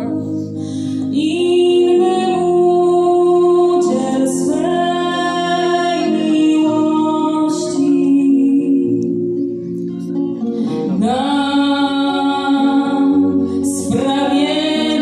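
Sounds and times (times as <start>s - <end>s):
women singing: 0.0s - 9.2s, 10.8s - 15.0s
acoustic guitar: 0.0s - 15.0s.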